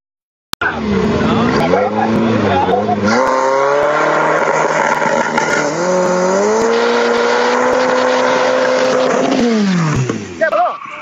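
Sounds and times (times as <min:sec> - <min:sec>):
car engine revving: 0:00.6 - 0:11.0.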